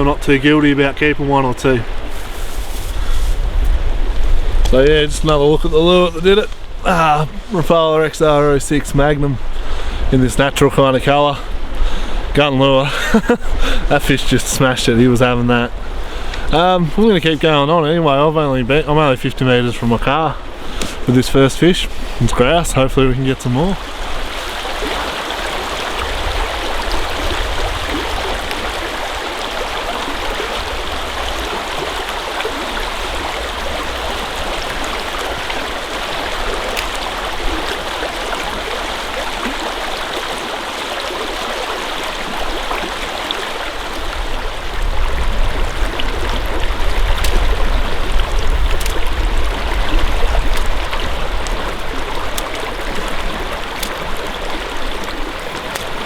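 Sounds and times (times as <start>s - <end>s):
creek flowing: 0.0s - 56.0s.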